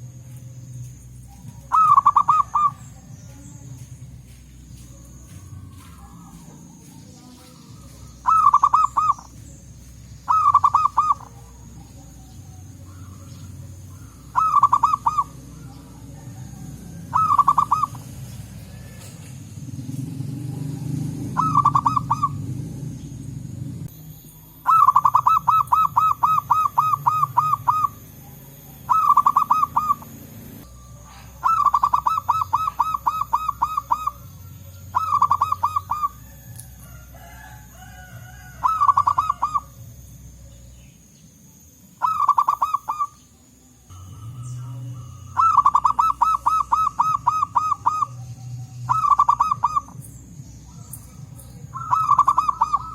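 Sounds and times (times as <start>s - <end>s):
doves cooing: 0.0s - 43.3s, 43.9s - 52.9s.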